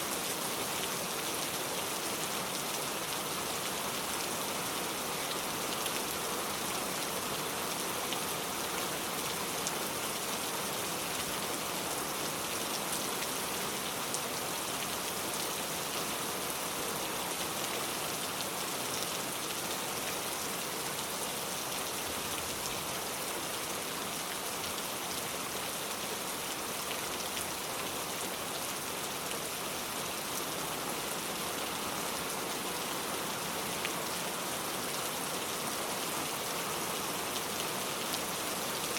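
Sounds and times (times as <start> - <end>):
rain falling on a car: 0.1 - 38.9.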